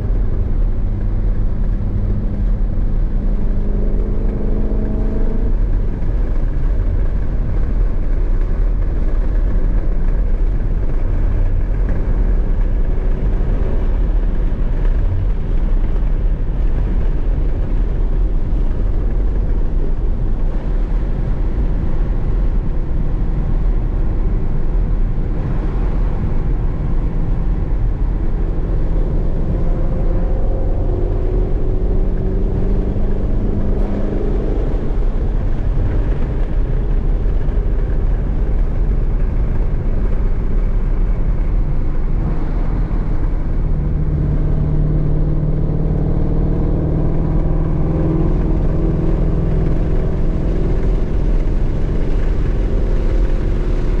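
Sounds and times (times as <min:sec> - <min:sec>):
car engine running hard: 0:00.0 - 0:54.0
road and tyre noise: 0:00.0 - 0:54.0.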